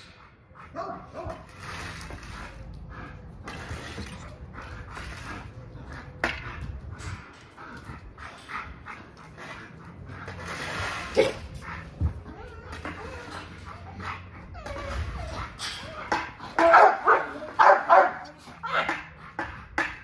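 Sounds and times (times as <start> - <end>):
dogs whimpering and barking: 0.0 - 20.0.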